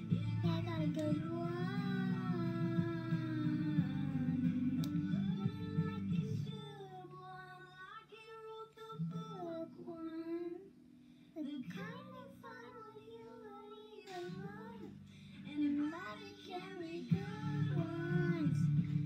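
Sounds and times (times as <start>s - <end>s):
girl singing a country-pop ballad: 0.0s - 19.0s
quiet backing track: 0.0s - 19.0s.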